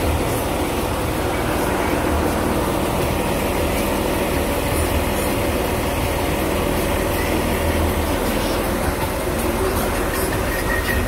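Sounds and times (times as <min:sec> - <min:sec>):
truck diesel engine running: 0:00.0 - 0:11.0
water rushing around wheels: 0:00.0 - 0:11.0.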